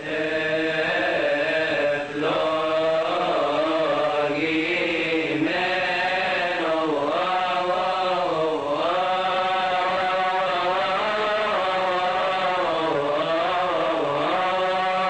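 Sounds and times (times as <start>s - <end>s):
liturgical chant: 0.0s - 15.0s.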